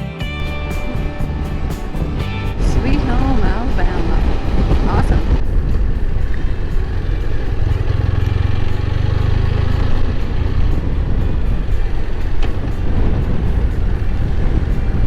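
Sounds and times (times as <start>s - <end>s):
motorcycle engine drone: 0.0s - 15.0s
road noise: 0.0s - 15.0s
wind noise: 0.0s - 15.0s.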